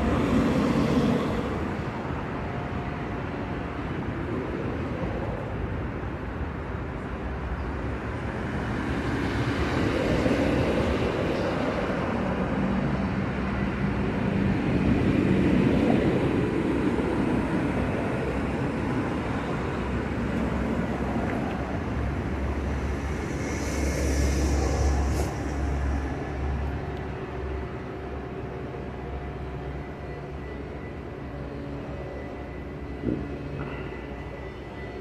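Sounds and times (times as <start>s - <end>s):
street traffic rumble: 0.0s - 35.0s.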